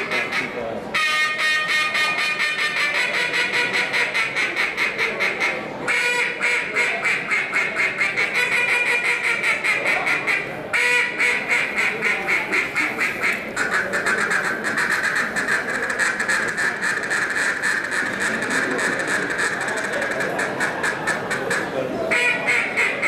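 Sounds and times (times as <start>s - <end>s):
duck call quacks: 0.0s - 23.0s.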